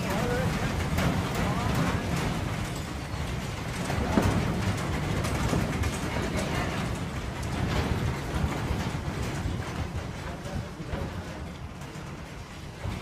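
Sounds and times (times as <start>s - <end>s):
building fittings rattling: 0.0s - 13.0s.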